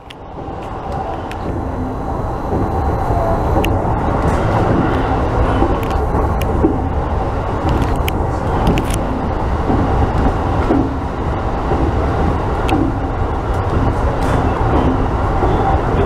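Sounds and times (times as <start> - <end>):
sharp clicks of train wheels: 0.0 - 16.0
train wheels rumbling on rail: 0.0 - 16.0.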